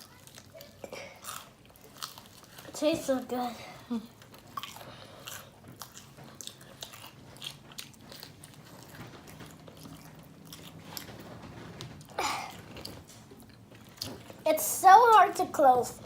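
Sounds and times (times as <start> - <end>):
chewing crispy fried chicken: 0.0 - 2.8, 3.8 - 14.4.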